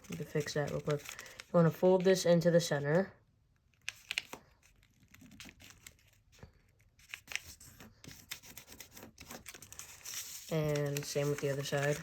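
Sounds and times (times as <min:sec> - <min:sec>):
paper being folded and creased: 0:00.0 - 0:02.2, 0:03.7 - 0:12.0.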